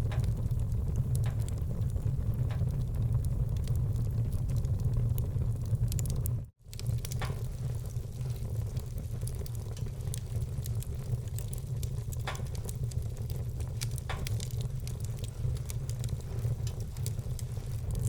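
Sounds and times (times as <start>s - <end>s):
loud fire pops: 0.0s - 18.0s
wood fire crackling: 0.0s - 18.0s.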